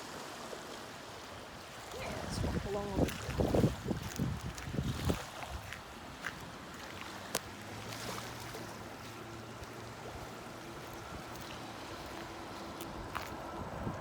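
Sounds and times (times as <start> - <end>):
water noise: 0.0 - 14.0.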